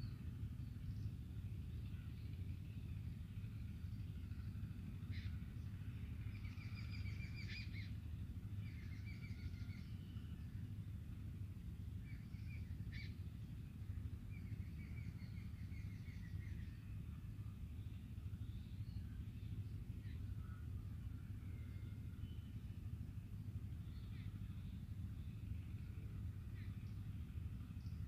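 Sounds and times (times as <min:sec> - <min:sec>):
faint bird chirps: 0:00.0 - 0:10.9, 0:11.9 - 0:28.0
low background rumble: 0:00.0 - 0:28.0.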